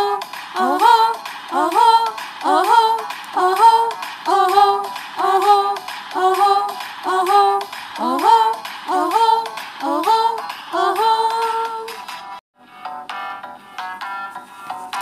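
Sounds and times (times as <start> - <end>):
pop song with female vocal hook: 0.0 - 12.3.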